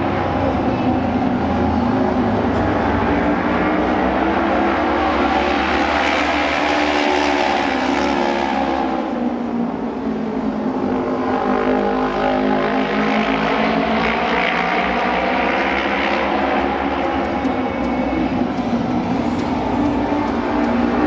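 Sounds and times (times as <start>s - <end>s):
racing motorcycle engines: 0.0s - 21.0s.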